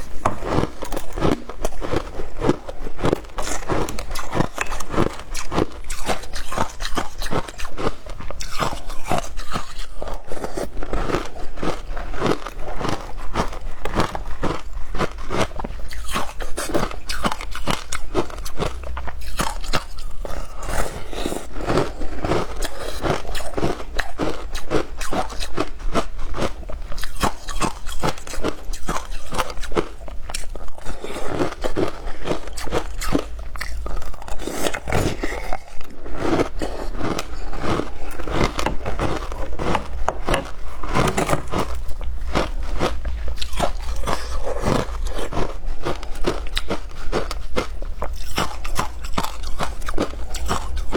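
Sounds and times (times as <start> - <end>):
crunching shaved ice: 0.0 - 50.9.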